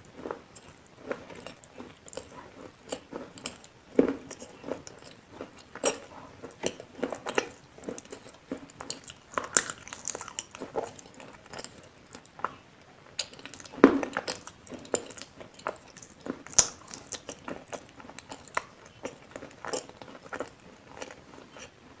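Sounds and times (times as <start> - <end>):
chewing food crunching: 0.0 - 22.0.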